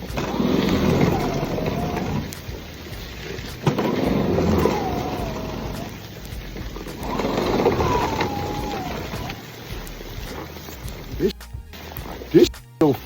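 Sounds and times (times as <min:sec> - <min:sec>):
electric snow shovel motor whine: 0:00.0 - 0:11.2
rushing noise: 0:00.0 - 0:11.9.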